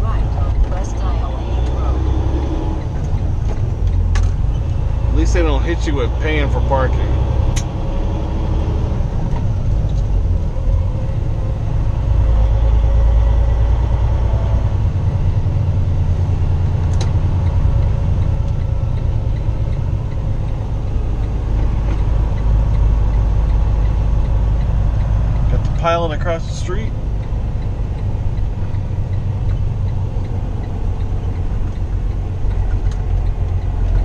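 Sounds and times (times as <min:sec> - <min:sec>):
truck diesel engine rumble: 0:00.0 - 0:34.0.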